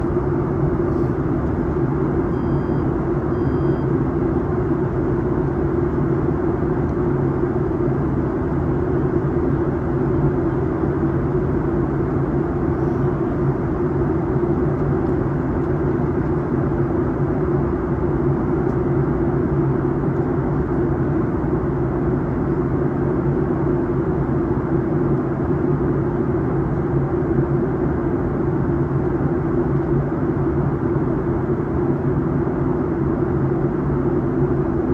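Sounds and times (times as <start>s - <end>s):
airliner engine hum: 0.0s - 34.9s.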